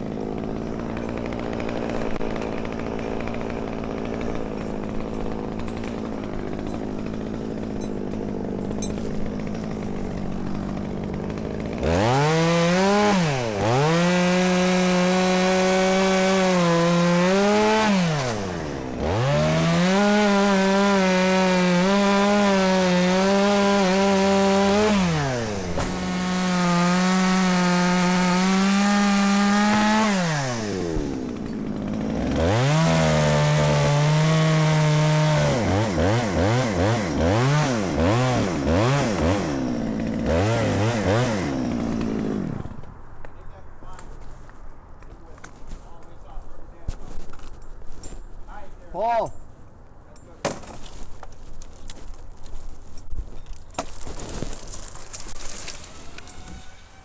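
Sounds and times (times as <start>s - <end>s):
chainsaw cutting wood: 0.0s - 48.6s, 50.3s - 57.0s.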